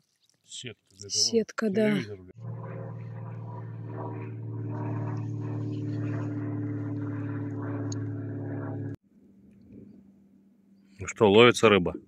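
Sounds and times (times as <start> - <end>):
propeller aircraft passing overhead: 2.2 - 12.0.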